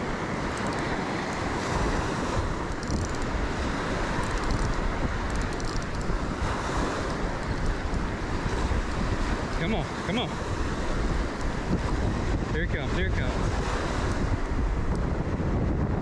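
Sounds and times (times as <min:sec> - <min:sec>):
surf breaking on sand: 0:00.0 - 0:05.3, 0:06.0 - 0:16.0
wind buffeting microphone: 0:00.0 - 0:16.0.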